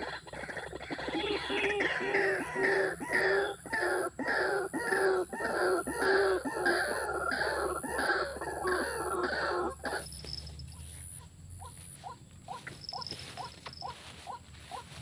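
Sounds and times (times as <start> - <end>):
animal calling: 0.0 - 15.0.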